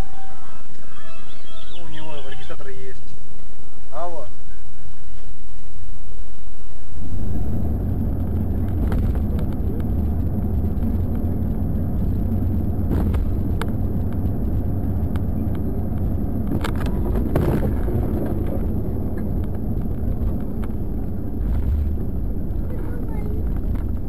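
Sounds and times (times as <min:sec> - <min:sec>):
road and engine rumble in car: 0:00.0 - 0:05.3, 0:06.4 - 0:24.0.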